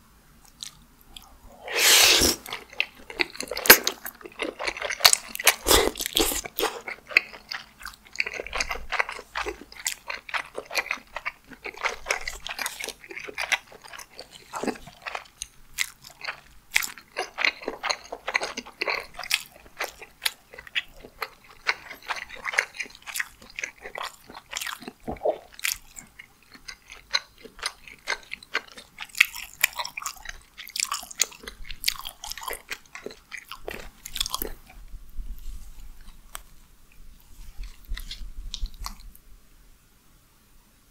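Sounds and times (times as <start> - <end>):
person chewing: 0.4 - 34.8, 37.2 - 39.2.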